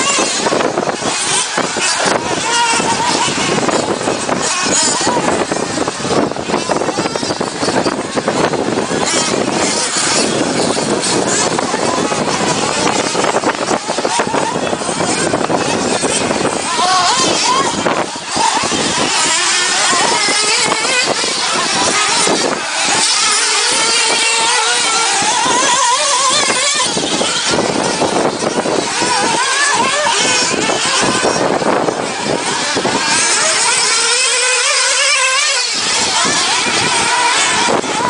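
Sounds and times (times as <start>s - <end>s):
dense rushing noise: 0.0s - 38.0s
toy car electric motor whining: 0.0s - 38.0s.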